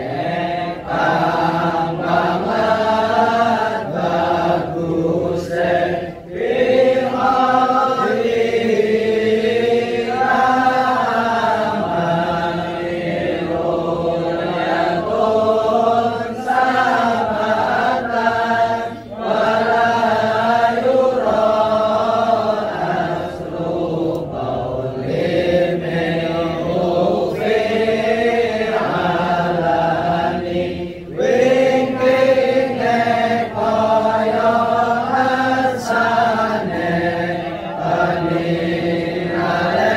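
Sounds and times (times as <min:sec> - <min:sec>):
men chanting together: 0:00.0 - 0:39.9.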